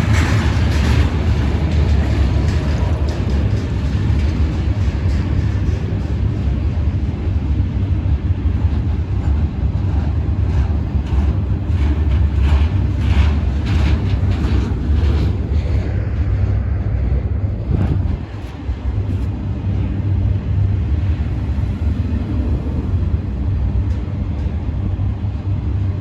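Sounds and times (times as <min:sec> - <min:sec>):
freight train rumbling: 0:00.0 - 0:26.0
train wheels clattering: 0:00.0 - 0:26.0.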